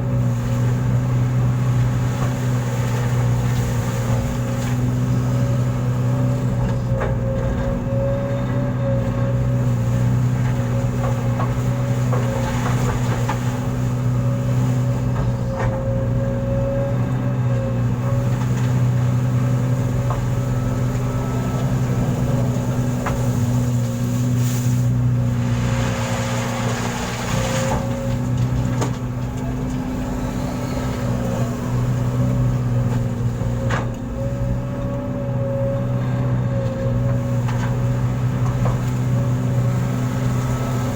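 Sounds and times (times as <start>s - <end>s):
diesel engine droning: 0.0s - 40.9s
high engine whine: 0.0s - 40.9s.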